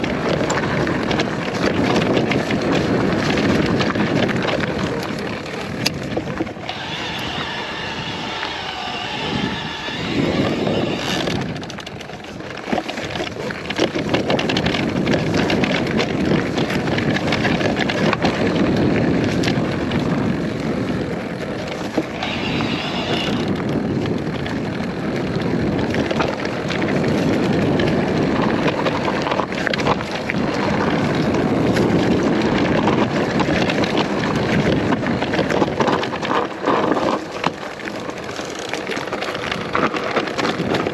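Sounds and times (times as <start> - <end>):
bike rattles and clicks: 0.0 - 40.9
tyres rolling over rough ground: 0.0 - 40.9
wind on microphone: 0.0 - 40.9.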